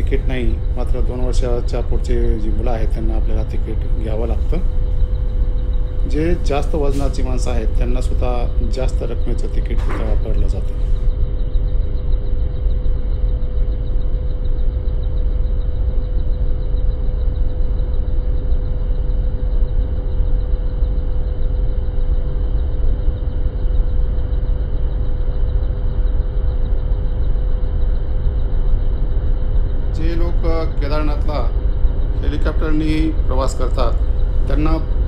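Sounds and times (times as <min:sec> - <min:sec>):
constant hum: 0:00.0 - 0:35.0
helicopter rotor and engine rumble: 0:00.0 - 0:35.0.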